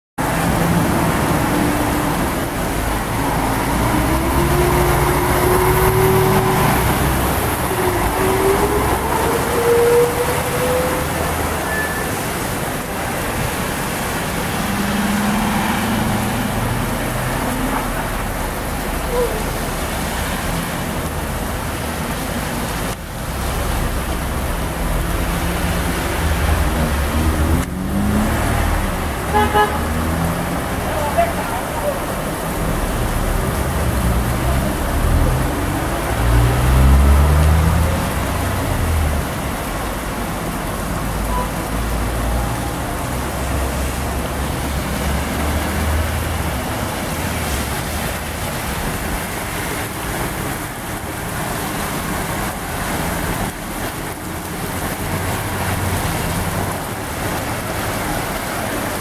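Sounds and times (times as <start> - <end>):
dump truck engine accelerating: 0.2 - 31.1, 32.0 - 58.9
rain hissing: 0.2 - 59.0
tyres on wet road: 0.2 - 59.0.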